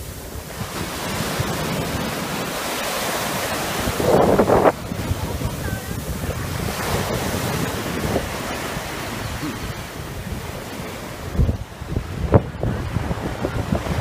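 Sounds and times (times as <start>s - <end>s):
surf washing up beach: 0.0s - 14.0s
wind buffeting microphone: 0.0s - 14.0s.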